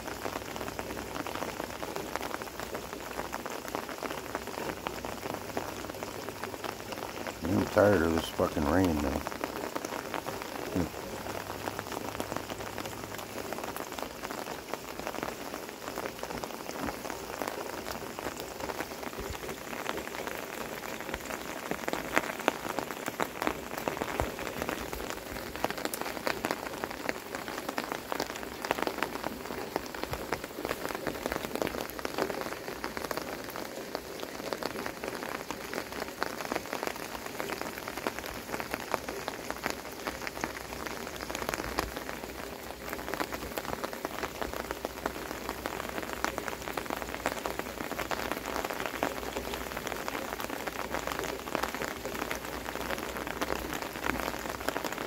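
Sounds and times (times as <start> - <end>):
heavy pouring rain: 0.0 - 55.0
rain drumming on an umbrella: 0.0 - 55.0.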